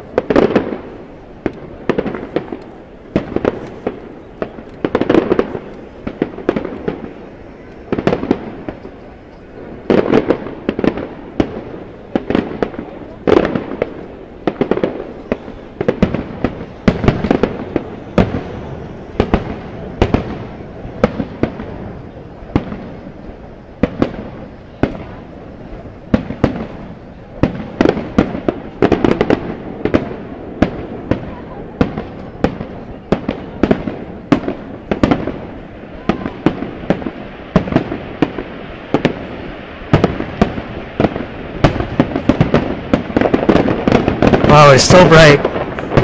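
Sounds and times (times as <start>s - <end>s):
fireworks bursting with sharp bangs: 0.0s - 46.0s.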